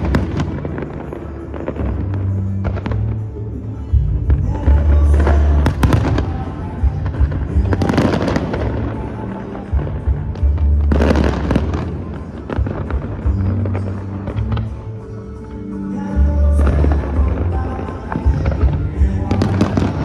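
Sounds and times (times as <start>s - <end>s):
bass-heavy music: 0.0s - 20.0s
fireworks bursting and crackling: 0.0s - 20.0s.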